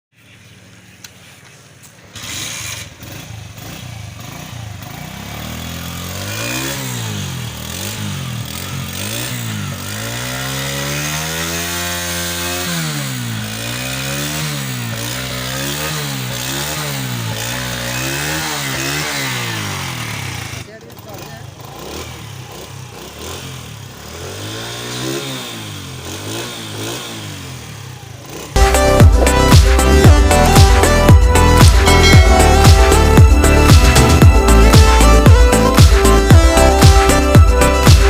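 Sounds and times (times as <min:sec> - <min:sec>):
motorcycle engine revving: 0:00.2 - 0:38.0.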